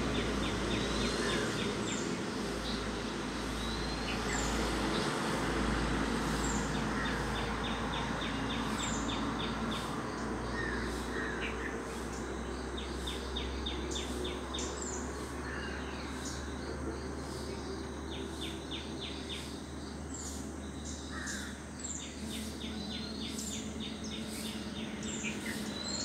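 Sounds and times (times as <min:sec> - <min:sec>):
insect drone: 0:00.0 - 0:26.0.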